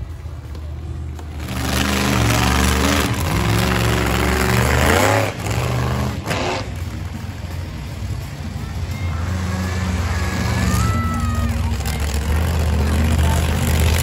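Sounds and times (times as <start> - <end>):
monster truck engine revving: 1.2 - 14.0.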